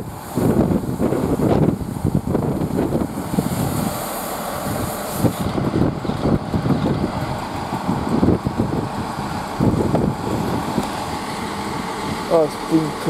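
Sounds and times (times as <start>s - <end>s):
diesel train engines running: 0.0s - 13.0s
wheel and rail noise: 0.0s - 13.0s.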